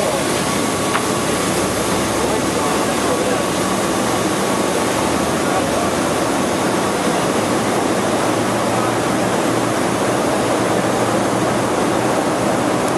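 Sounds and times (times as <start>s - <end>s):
aircraft cabin roar: 0.0s - 12.9s.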